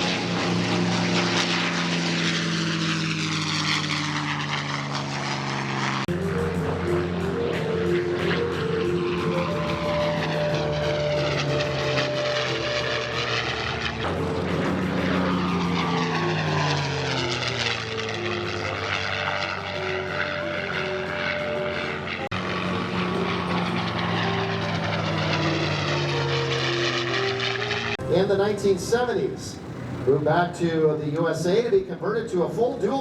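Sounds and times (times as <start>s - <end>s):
piston aircraft engines flying past: 0.0s - 33.0s.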